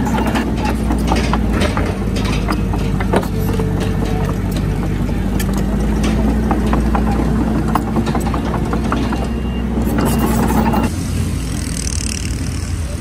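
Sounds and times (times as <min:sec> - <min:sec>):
sharp metal clanks and knocks: 0:00.0 - 0:10.9
bulldozer diesel engine running: 0:00.0 - 0:13.0.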